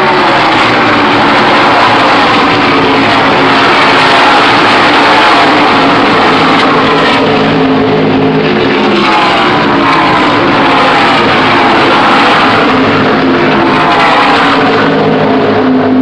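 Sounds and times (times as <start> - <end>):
race cars passing: 0.0 - 16.0.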